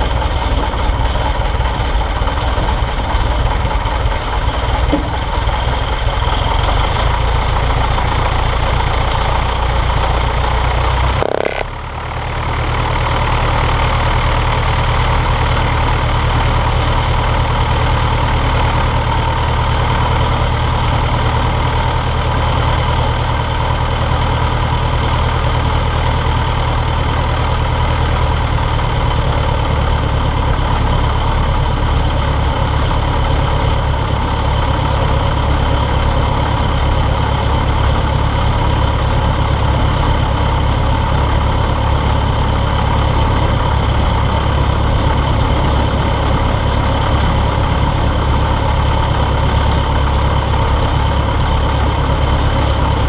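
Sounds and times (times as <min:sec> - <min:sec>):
plane engine idling: 0:00.0 - 0:53.0.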